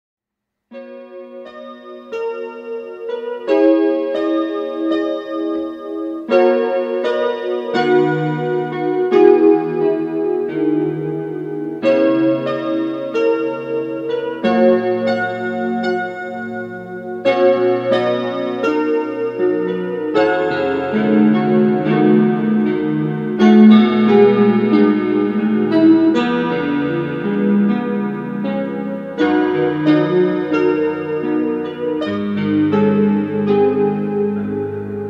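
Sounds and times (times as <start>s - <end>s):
slow solo piano music: 0.7s - 35.0s.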